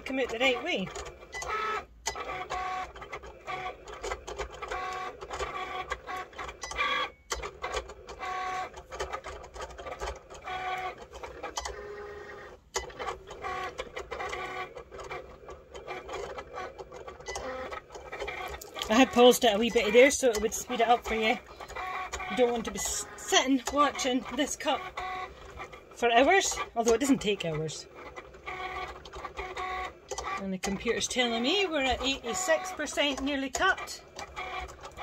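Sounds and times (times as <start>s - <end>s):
cutting machine motors whining: 0.0s - 35.0s.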